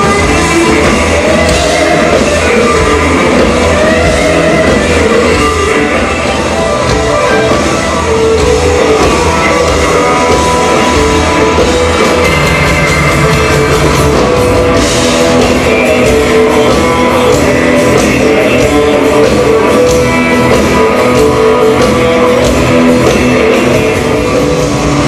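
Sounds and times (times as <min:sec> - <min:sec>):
band playing blues rock: 0:00.0 - 0:25.0.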